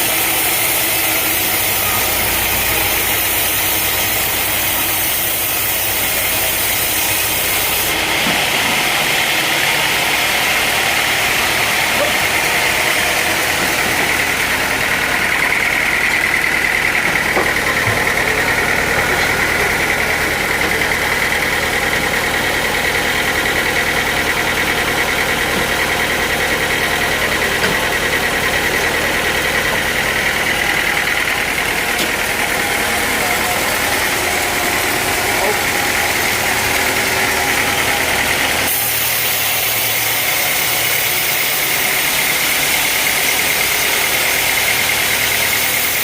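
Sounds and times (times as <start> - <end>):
sawmill machinery whining: 0.0 - 46.0.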